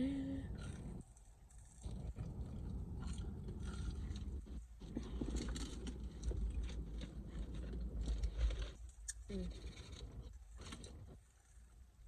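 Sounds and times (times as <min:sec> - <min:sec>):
steady low hum: 0:00.0 - 0:12.0
chewing and mouth sounds: 0:00.2 - 0:11.8.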